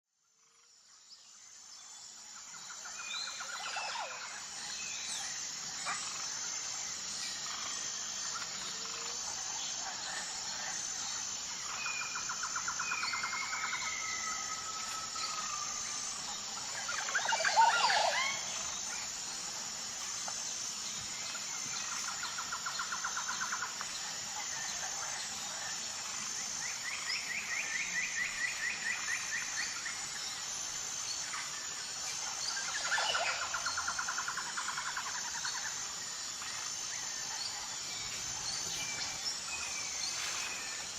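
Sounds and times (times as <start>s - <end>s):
insect chirring: 0.3s - 40.9s.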